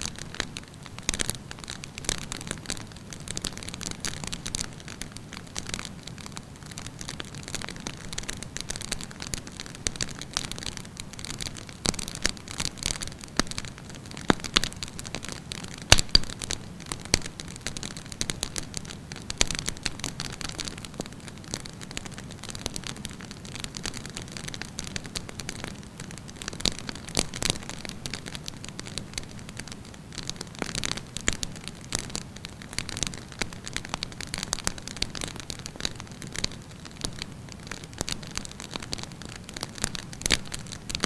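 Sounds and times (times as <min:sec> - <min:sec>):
wood crackling and popping: 0:00.0 - 0:41.0.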